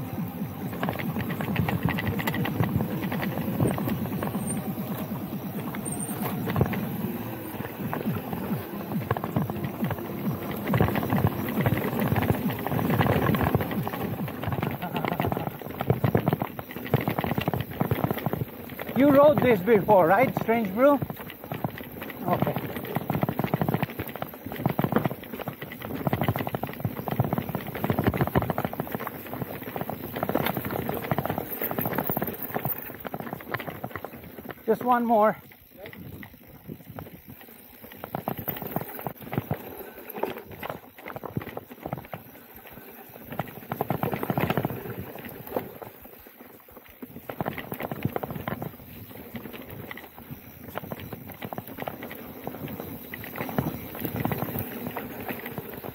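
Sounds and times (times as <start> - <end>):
bike rattling over rocks: 0.0 - 55.9.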